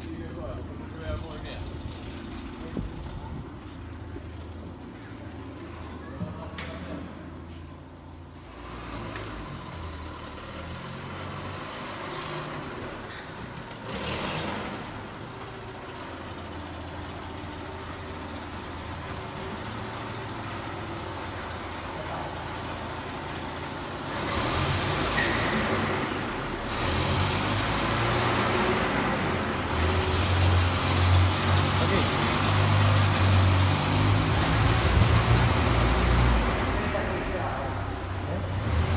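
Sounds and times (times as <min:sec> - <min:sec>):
van engine running: 0:00.1 - 0:06.1, 0:07.4 - 0:38.9.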